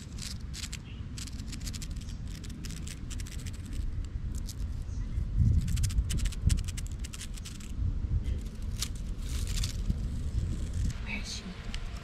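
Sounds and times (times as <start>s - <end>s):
vegetation rustling: 0.0s - 7.7s, 8.4s - 11.0s
steady low rumble: 0.0s - 12.0s.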